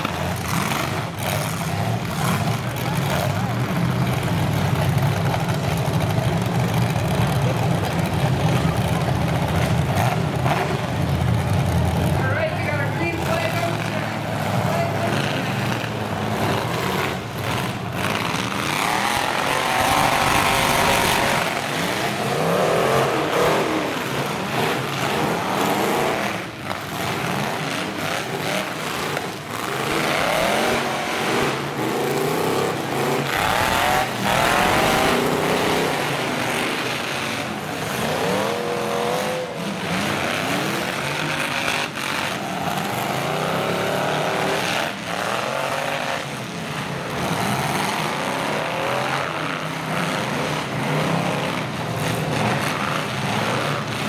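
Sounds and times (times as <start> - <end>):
truck engines revving: 0.0 - 54.0.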